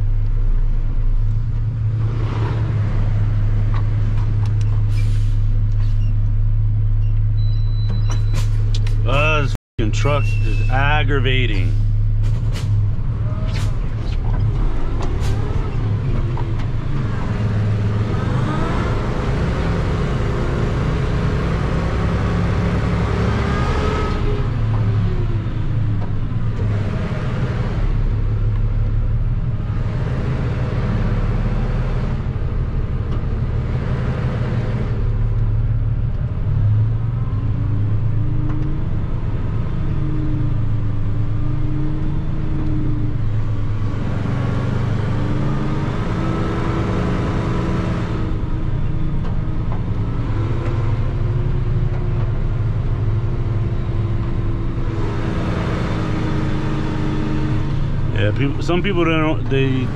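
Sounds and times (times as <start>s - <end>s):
truck engine running: 0.0s - 23.3s, 34.4s - 59.9s.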